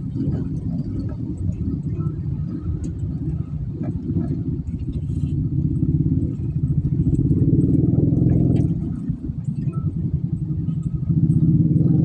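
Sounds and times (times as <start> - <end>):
vehicle engine pulsing rumble: 0.0 - 12.0.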